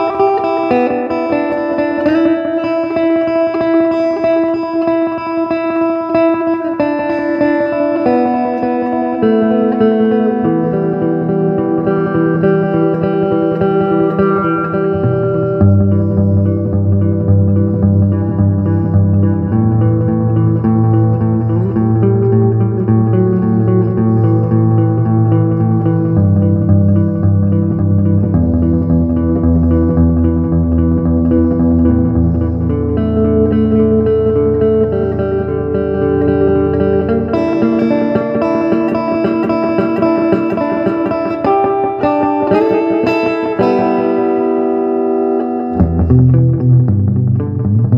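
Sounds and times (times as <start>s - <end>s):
electric guitar through amplifier: 0.0s - 47.9s.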